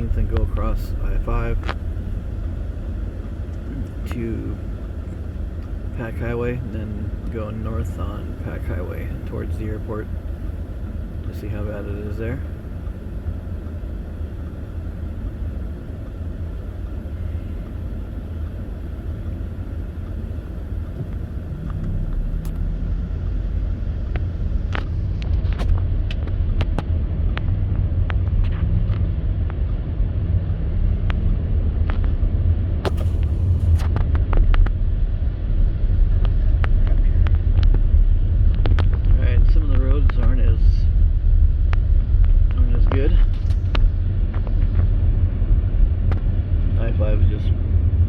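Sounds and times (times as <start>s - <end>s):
car engine and tyres rumbling: 0.0s - 48.0s.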